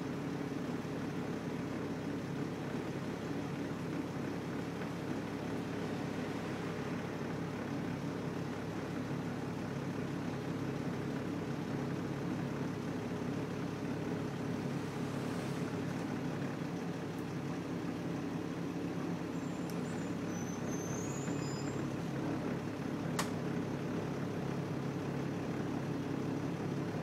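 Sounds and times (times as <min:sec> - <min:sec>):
bus engine droning: 0:00.0 - 0:27.0.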